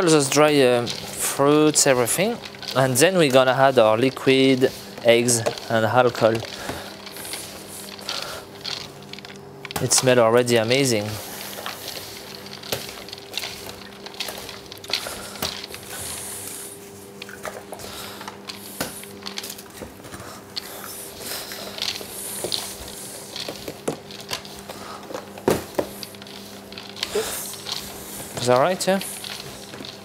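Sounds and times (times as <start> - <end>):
dry mix rustling in bowl: 0.0 - 30.0
steady electrical hum: 0.0 - 30.0.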